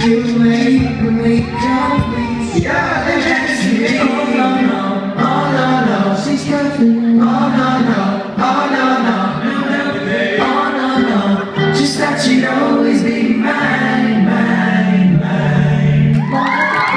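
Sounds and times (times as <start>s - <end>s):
male vocal group singing harmony: 0.0s - 16.9s.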